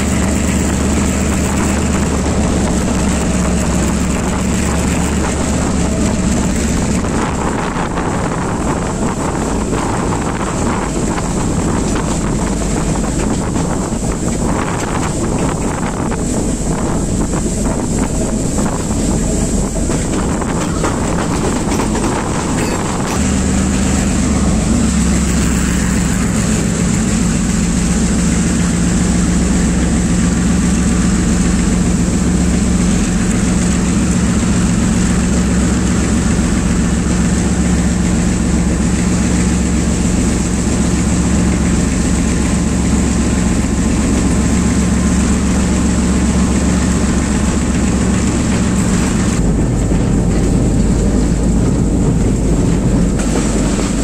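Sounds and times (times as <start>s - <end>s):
locomotive engine running: 0.0s - 54.0s.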